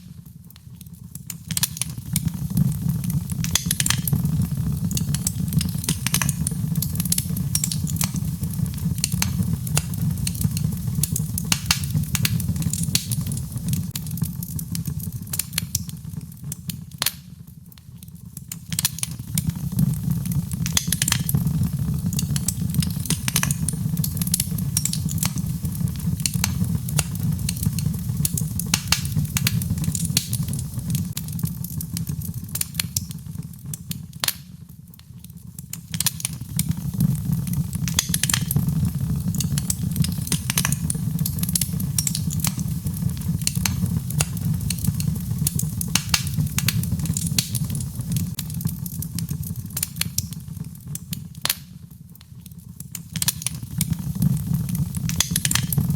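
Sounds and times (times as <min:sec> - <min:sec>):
crackles and pops of burning logs: 0:00.0 - 0:55.9
fire burning in a fireplace: 0:00.0 - 0:55.9.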